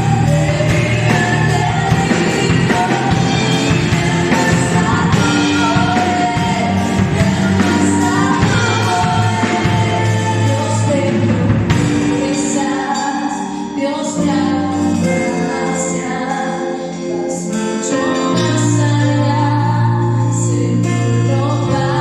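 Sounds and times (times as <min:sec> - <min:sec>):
band playing worship song: 0:00.0 - 0:22.0
person singing: 0:00.0 - 0:22.0.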